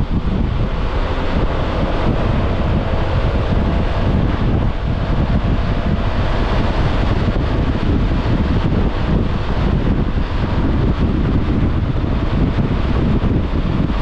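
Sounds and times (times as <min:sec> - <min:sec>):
road noise: 0:00.0 - 0:14.0
scooter engine: 0:00.0 - 0:14.0
wind noise on microphone: 0:00.0 - 0:14.0.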